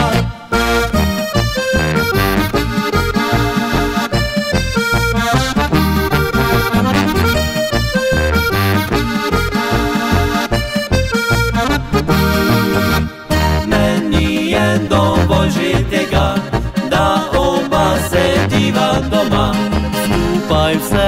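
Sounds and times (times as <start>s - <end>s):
accordion music with steady beat: 0.0s - 21.0s.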